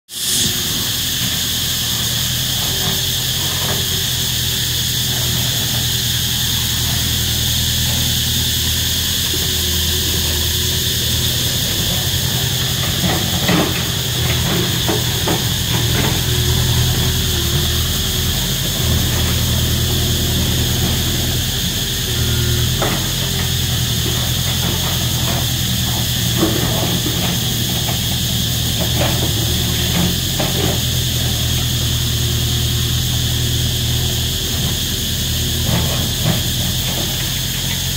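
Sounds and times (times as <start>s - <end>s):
cicadas droning: 0.1s - 37.9s
engine running: 0.1s - 37.9s.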